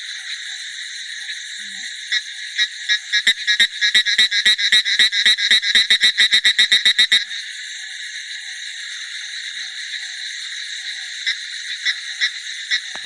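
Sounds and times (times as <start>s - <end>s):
frogs trilling: 0.0s - 13.0s
single frog calls: 0.0s - 13.0s.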